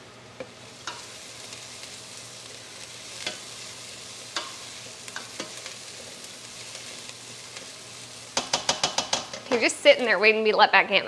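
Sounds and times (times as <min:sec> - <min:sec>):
food sizzling in a pan: 0:00.0 - 0:10.7.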